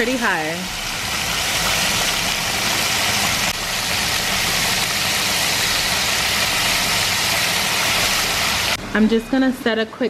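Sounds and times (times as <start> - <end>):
fish deep-frying in oil: 0.0 - 8.8.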